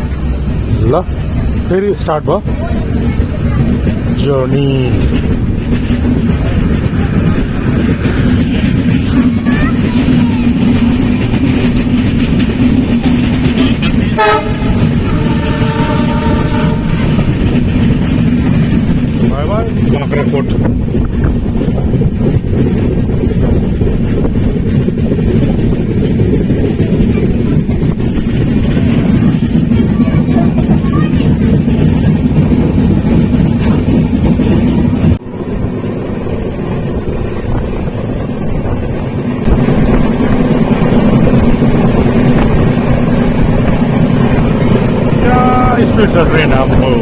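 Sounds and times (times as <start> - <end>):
passenger train rumbling: 0.0 - 47.0
wind on microphone: 2.4 - 47.0.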